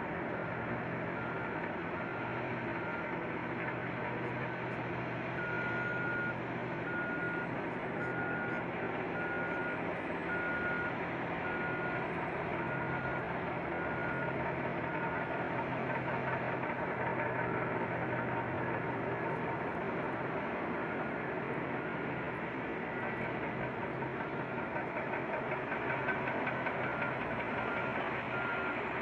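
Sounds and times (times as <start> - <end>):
big diesel engines running: 0.0 - 29.0.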